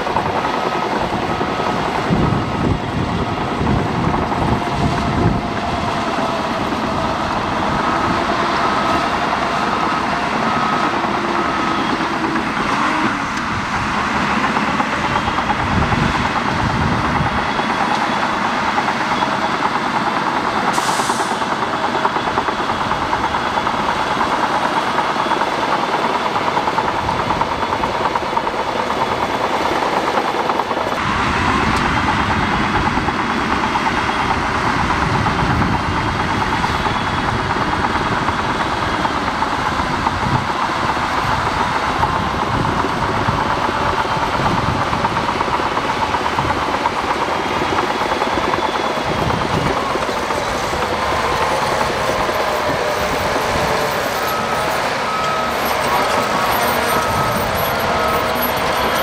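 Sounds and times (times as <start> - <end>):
bulldozer diesel engine under load: 0.0 - 59.0
steel tracks clattering: 0.0 - 59.0.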